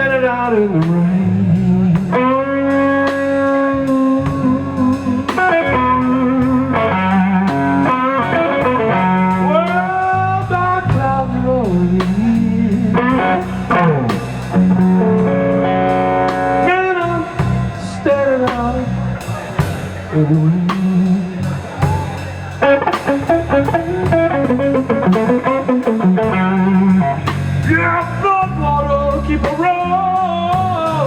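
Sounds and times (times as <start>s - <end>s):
bass and drums: 0.0s - 31.0s
electric guitar with string bends: 0.0s - 31.0s.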